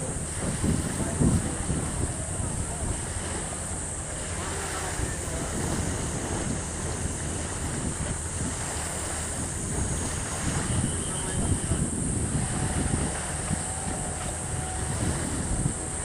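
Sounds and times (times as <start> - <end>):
sea noise: 0.0 - 16.0
wind buffeting microphone: 0.0 - 16.0.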